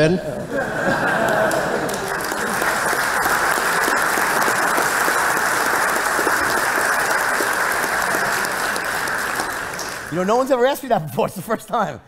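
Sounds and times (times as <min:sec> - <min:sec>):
audience applauding: 0:00.9 - 0:10.6.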